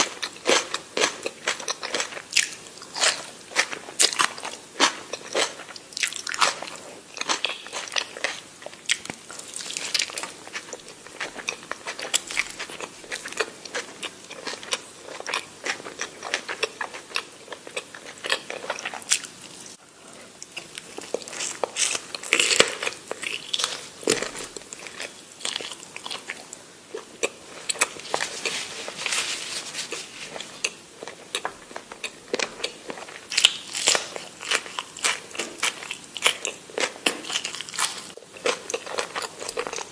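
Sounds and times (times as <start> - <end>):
person chewing and biting food: 0.0 - 29.1, 29.8 - 39.9.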